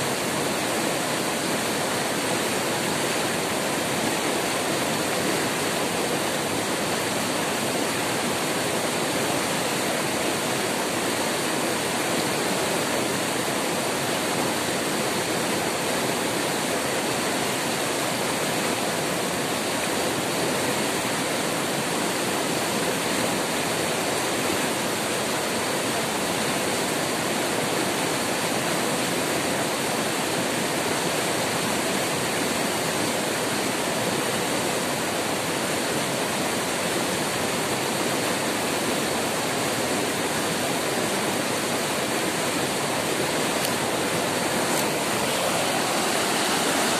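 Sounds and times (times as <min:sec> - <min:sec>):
river rapids roaring: 0:00.0 - 0:46.9.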